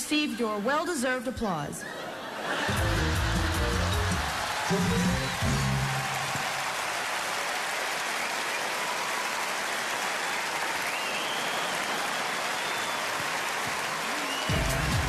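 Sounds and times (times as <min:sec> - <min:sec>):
audience applauding: 0:02.4 - 0:15.0.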